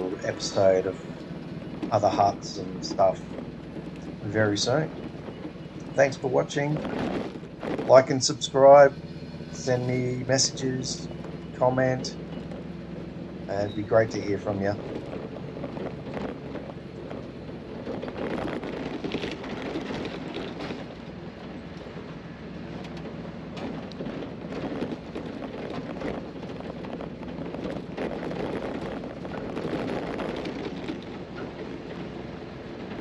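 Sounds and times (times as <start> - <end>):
knocks and rattles from rough ground: 0.0 - 33.0
vehicle engine and tyre noise: 0.0 - 33.0.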